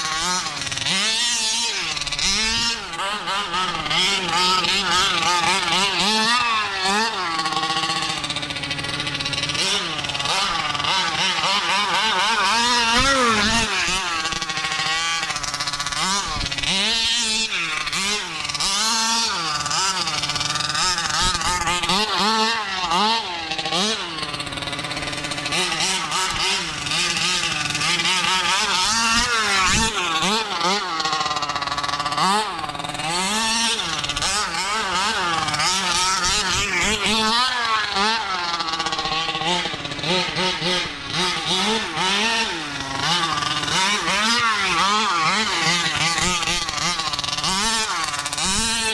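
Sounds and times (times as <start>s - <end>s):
two-stroke engine revving: 0.0s - 48.9s.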